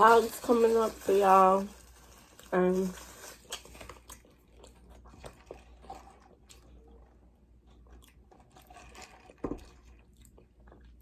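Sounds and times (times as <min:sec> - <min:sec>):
person chewing food: 0:01.7 - 0:11.0.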